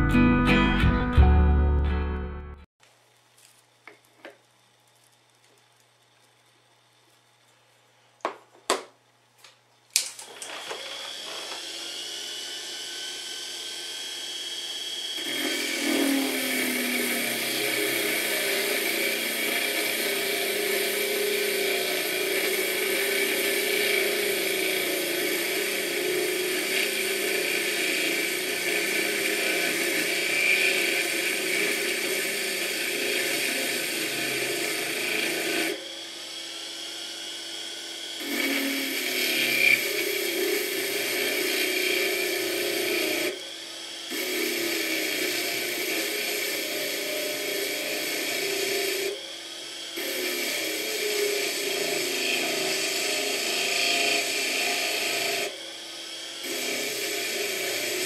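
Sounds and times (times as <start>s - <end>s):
washing machine motor whirring: 9.9s - 58.0s
file cutting spinning metal: 10.2s - 58.0s.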